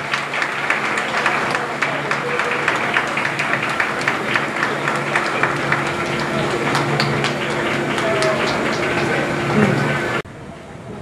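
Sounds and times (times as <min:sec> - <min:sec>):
crowd applauding: 0:00.0 - 0:10.2
murmur of voices: 0:00.0 - 0:11.0.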